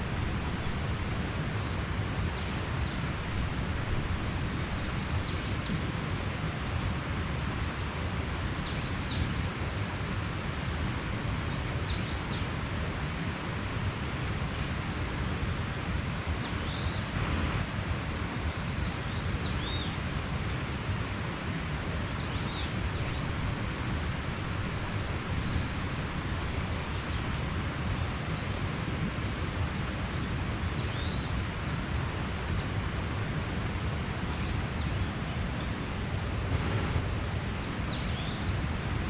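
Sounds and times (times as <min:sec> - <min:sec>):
stream flowing: 0:00.0 - 0:39.0.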